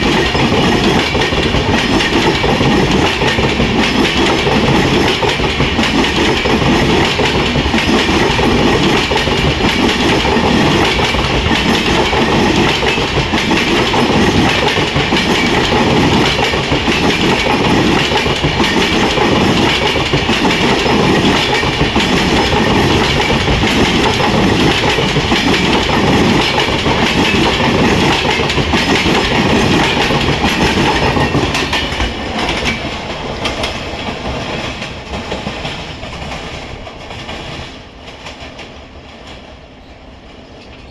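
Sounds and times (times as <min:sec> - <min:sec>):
train wheels clattering on track: 0:00.0 - 0:40.9.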